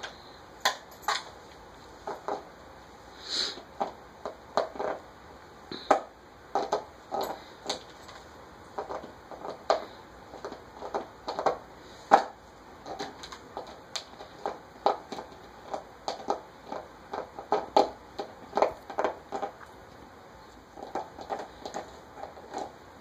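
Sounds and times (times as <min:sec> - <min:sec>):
puppy chewing plastic bottle: 0:02.0 - 0:02.5, 0:03.6 - 0:05.1, 0:05.8 - 0:23.0.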